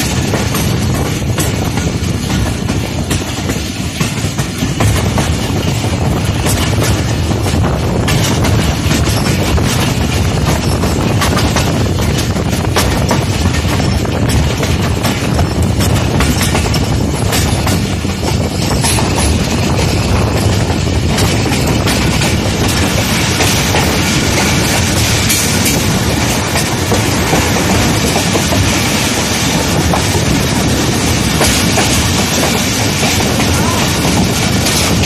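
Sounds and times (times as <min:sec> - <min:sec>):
train running noise: 0:00.0 - 0:35.0
wheels clattering over rail joints: 0:00.0 - 0:35.0.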